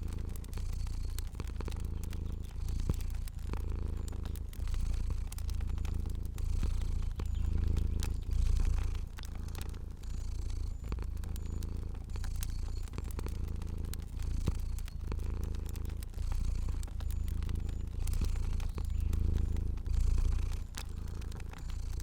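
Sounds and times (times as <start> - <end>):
cat purring: 0.0 - 22.0
fire crackling and popping: 0.0 - 22.0.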